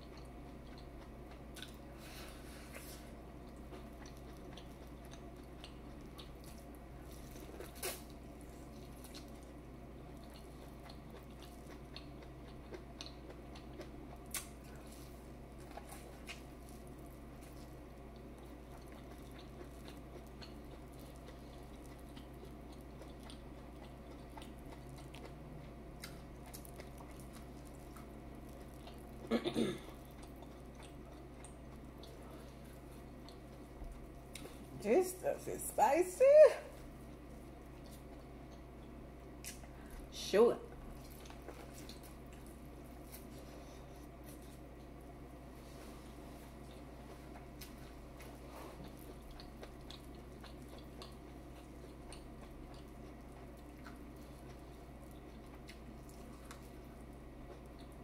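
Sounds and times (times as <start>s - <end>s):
soft chewing and mouth clicks: 0.0s - 34.8s, 36.7s - 40.1s, 40.7s - 58.0s
low room hum: 0.0s - 58.0s.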